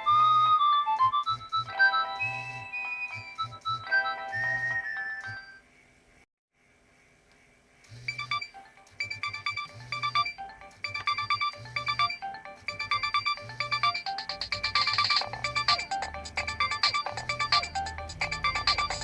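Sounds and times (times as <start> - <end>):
polyphonic ringtone melody: 0.0 - 5.6, 8.1 - 19.0.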